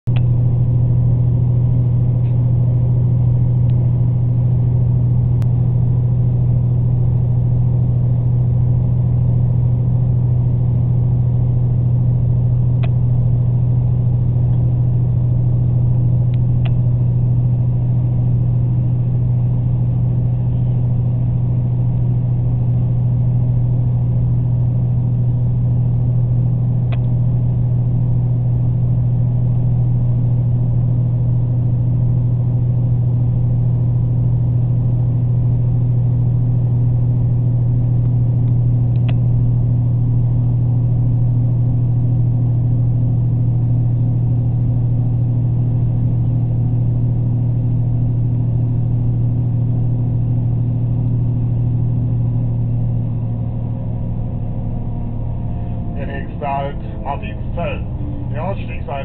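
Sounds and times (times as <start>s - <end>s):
train drone and rumble: 0.0s - 59.0s.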